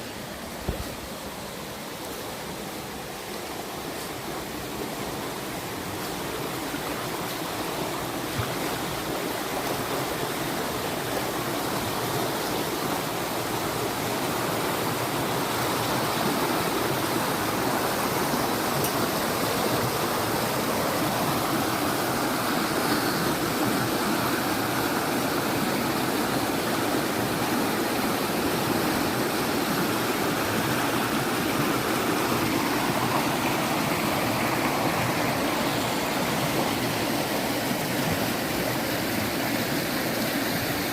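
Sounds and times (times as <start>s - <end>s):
fast-flowing water rushing: 0.0s - 40.9s.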